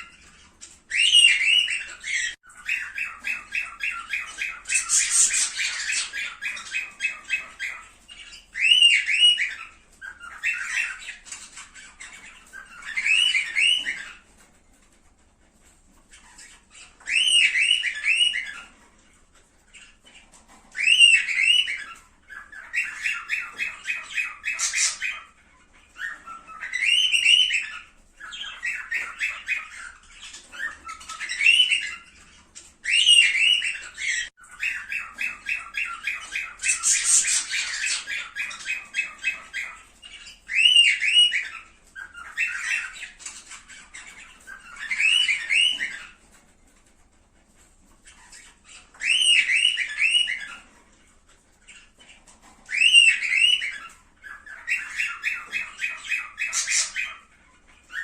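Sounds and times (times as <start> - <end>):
cockatiels calling and chirping: 0.0 - 58.0.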